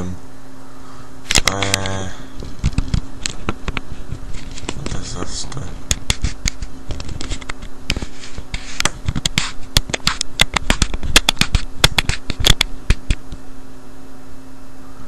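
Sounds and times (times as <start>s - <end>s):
low mains hum: 0.0s - 15.0s.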